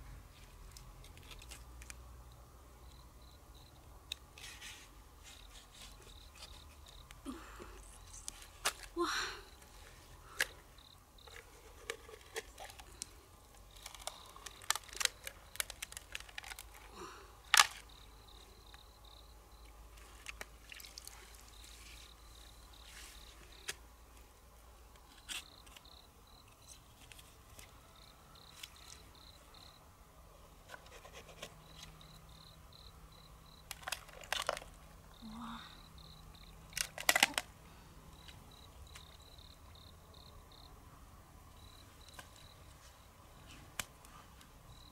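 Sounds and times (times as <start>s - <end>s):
insect chirping: 2.3s - 4.6s, 5.2s - 9.6s, 10.2s - 23.8s, 25.1s - 29.9s, 31.2s - 43.6s, 44.7s - 44.9s.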